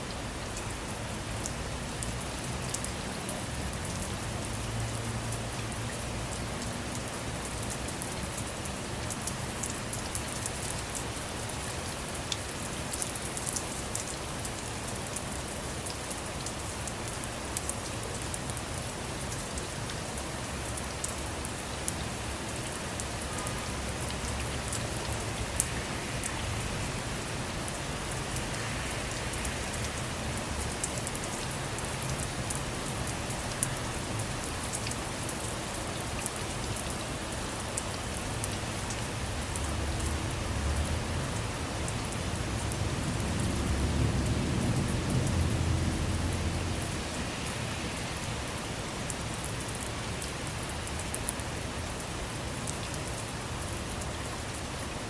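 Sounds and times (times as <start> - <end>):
rain on car roof: 0.1 - 55.0.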